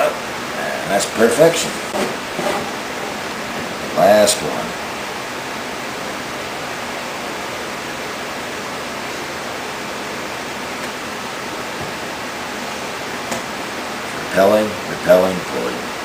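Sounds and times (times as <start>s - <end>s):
room noise hiss: 0.0s - 16.0s.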